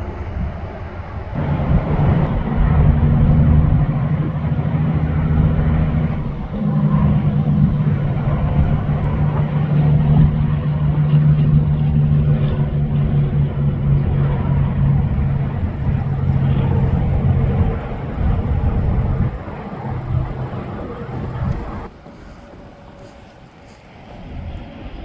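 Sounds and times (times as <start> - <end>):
road noise: 0.0 - 25.0
vehicle engine droning: 0.0 - 25.0.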